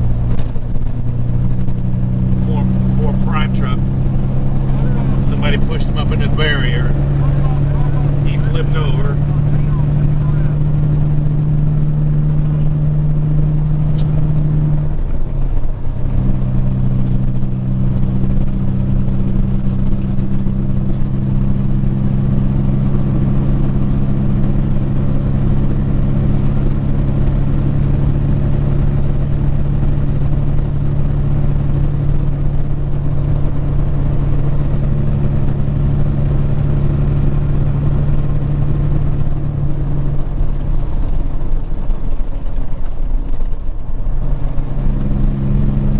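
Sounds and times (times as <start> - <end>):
road noise: 0.0 - 45.9
truck diesel engine cruising: 0.0 - 45.9.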